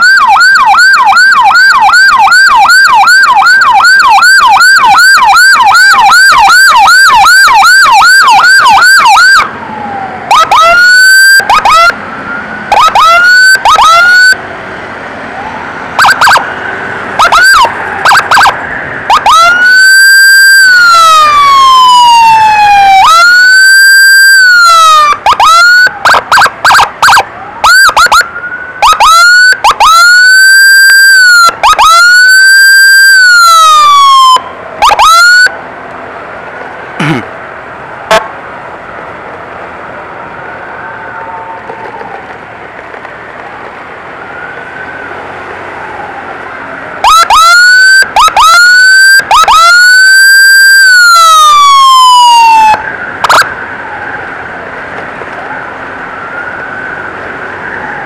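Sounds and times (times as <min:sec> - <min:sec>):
ambulance siren: 0:00.0 - 0:14.5, 0:15.2 - 0:35.7, 0:39.8 - 0:42.7, 0:43.9 - 0:58.0.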